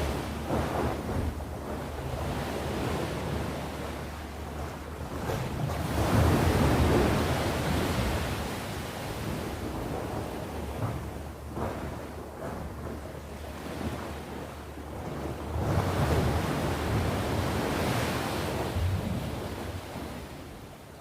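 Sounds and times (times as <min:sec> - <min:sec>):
sea waves breaking on shore: 0:00.0 - 0:21.0
wind rumble on microphone: 0:00.0 - 0:21.0.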